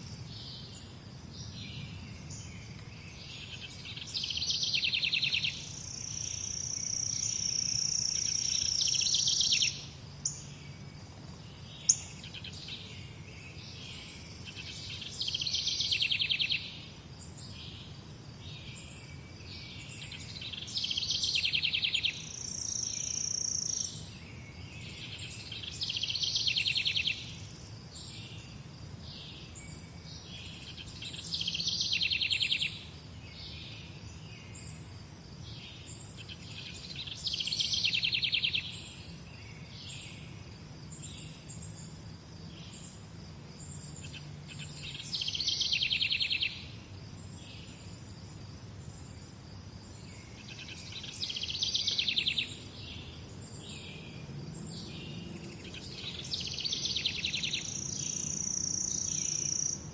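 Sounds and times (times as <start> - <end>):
faint bird chirps: 0.0 - 59.9
steady background hiss: 0.0 - 59.9.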